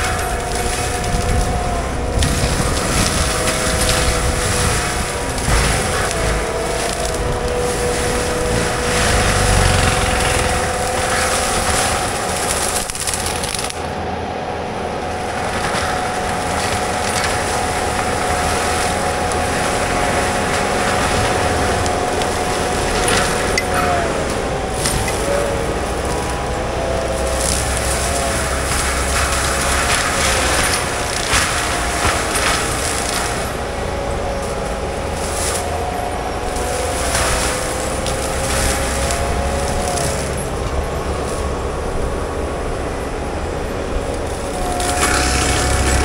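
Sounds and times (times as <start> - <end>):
loader engine noise: 0.0 - 46.0.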